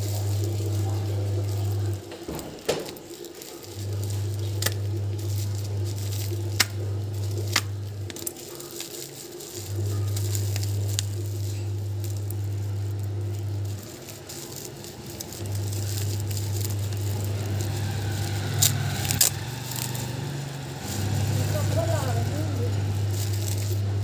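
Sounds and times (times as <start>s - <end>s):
plastic wrapping crinkling: 0.0s - 24.0s
steady low hum: 3.4s - 24.0s.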